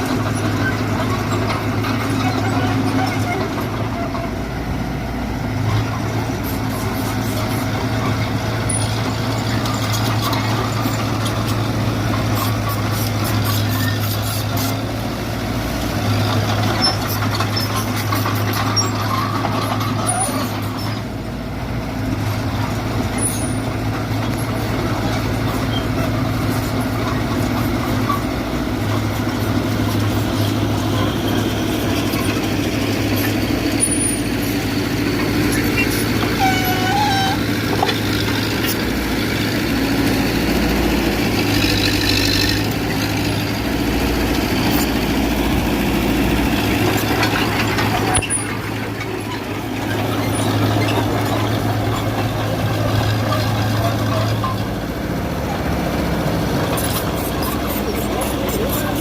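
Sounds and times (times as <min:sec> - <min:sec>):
bulldozer diesel engine humming: 0:00.0 - 0:59.0.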